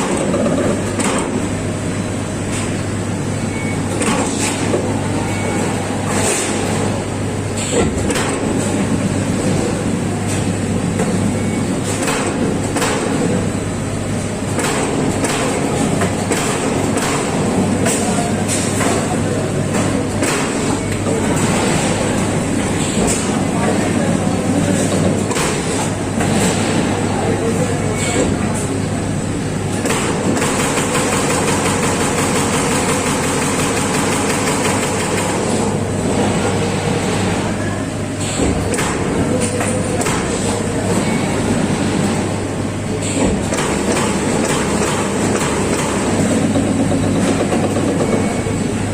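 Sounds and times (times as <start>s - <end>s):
machine hum and high whine: 0.0s - 48.9s.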